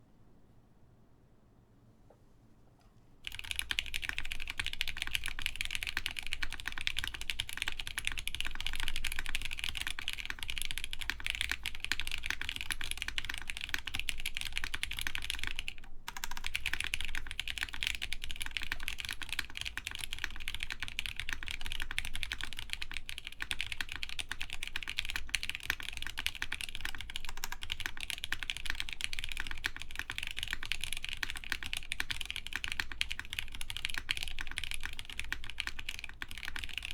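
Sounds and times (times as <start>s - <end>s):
typing on mechanical keyboard: 3.2s - 36.9s.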